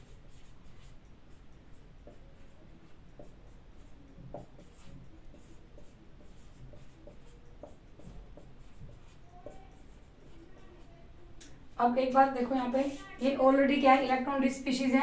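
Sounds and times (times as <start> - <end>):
marker writing on whiteboard: 0.0 - 11.2, 12.1 - 14.1.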